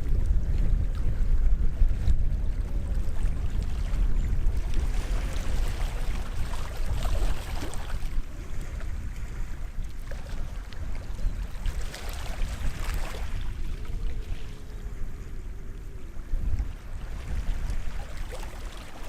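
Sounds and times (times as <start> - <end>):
small waves washing ashore: 0.0 - 19.0
steady low rumble: 0.0 - 19.0.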